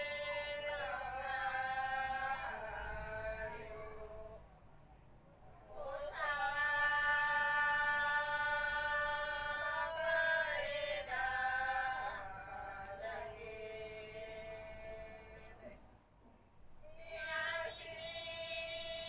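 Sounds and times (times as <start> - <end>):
person singing long held notes: 0.0 - 4.4, 5.8 - 15.8, 16.8 - 19.0.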